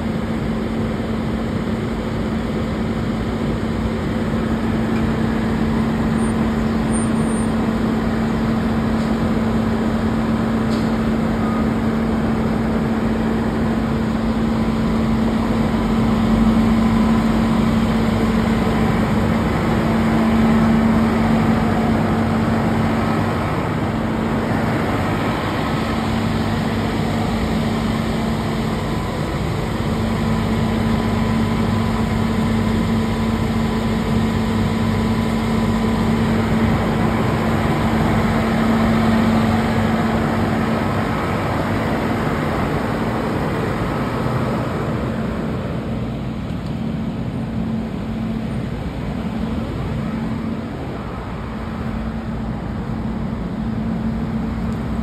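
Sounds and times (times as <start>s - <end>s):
fire engine running: 0.0s - 55.0s
rushing noise: 2.8s - 55.0s.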